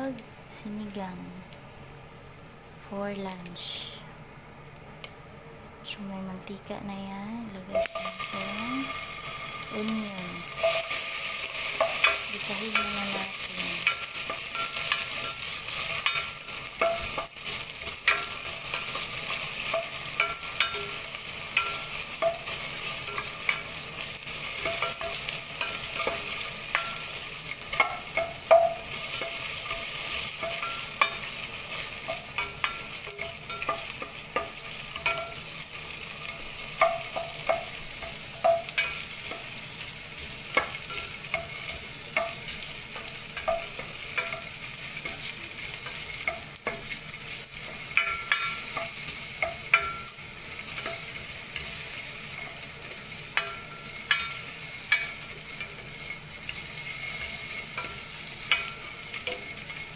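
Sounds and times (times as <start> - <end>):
onions sizzling in oil: 7.7 - 59.9.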